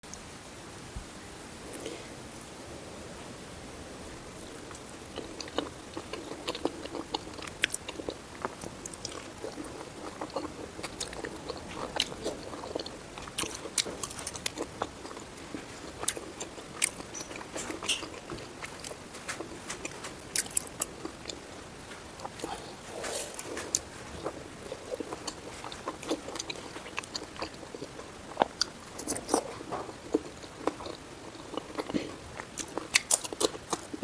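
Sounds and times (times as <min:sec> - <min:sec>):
person biting and chewing food: 0:04.5 - 0:34.0.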